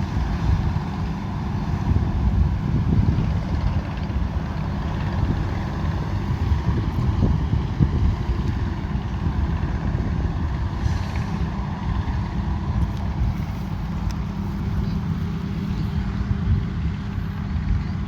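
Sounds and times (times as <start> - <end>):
combine harvester rumbling: 0.0 - 18.0.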